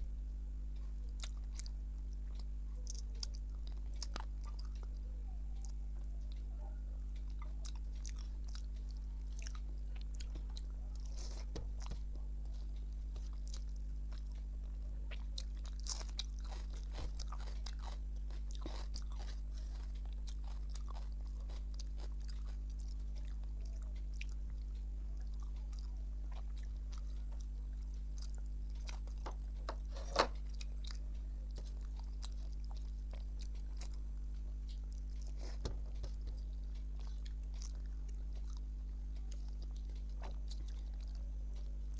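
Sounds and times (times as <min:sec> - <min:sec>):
low electrical hum: 0:00.0 - 0:41.9
person chewing food: 0:00.0 - 0:41.9.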